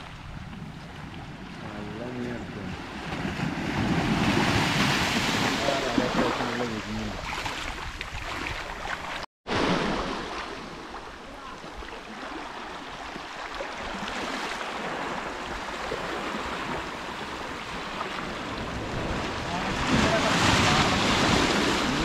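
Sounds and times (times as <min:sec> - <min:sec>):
waves lapping on beach: 0:00.0 - 0:22.0.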